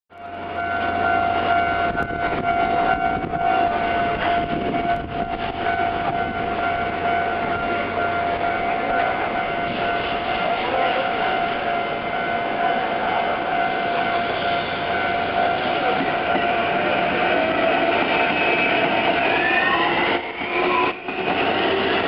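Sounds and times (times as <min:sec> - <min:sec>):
level crossing warning bell: 0:00.1 - 0:22.0
train running: 0:00.1 - 0:22.0.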